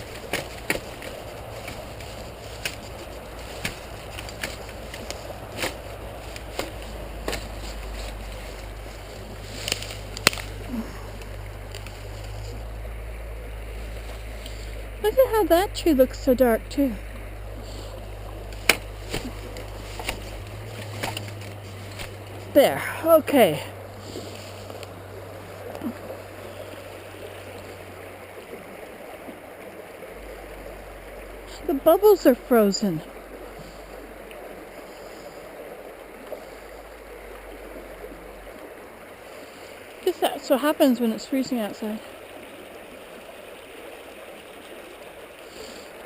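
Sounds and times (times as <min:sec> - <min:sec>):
stream running: 0:00.0 - 0:46.0.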